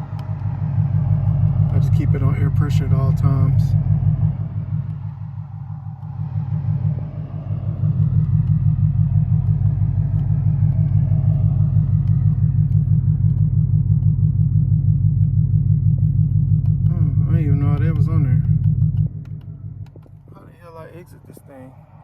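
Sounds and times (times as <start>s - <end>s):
engine pulsing rumble: 0.0s - 22.0s.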